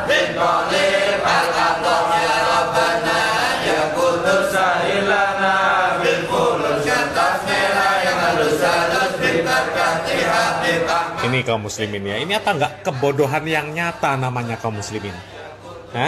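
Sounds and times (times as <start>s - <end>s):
men chanting in unison: 0.0s - 11.6s, 12.3s - 16.0s.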